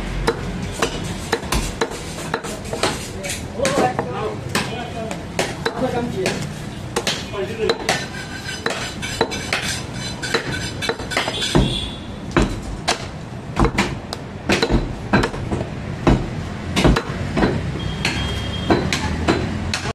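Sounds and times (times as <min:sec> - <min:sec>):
cleaver chopping meat on wood block: 0:00.2 - 0:19.9.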